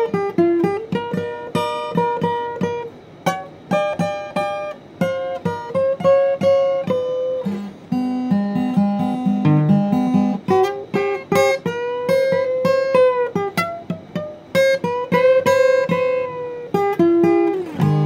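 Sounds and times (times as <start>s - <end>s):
acoustic guitar blues: 0.0s - 18.0s.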